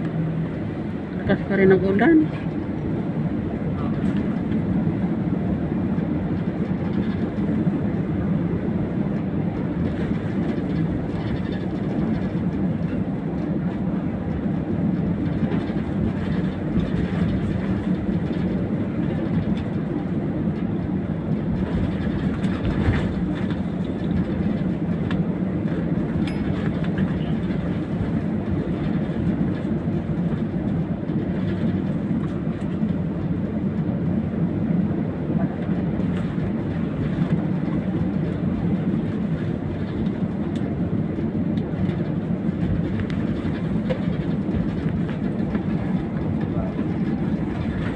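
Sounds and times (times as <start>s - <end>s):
low rumble in airliner cabin: 0.0s - 47.9s.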